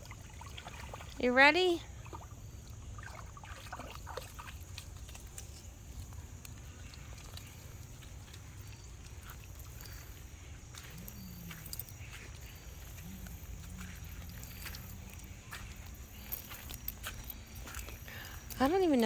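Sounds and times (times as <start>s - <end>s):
dogs snuffling: 2.1s - 19.0s.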